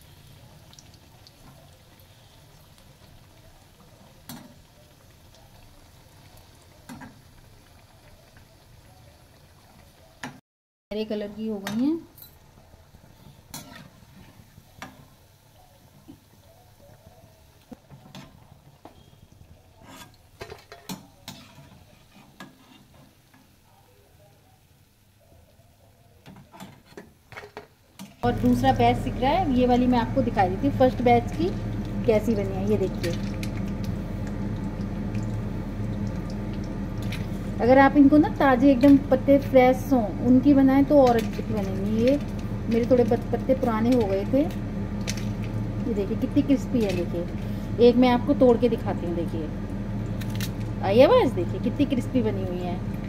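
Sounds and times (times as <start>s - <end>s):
faint frying sizzle with crackles: 0.0s - 53.0s.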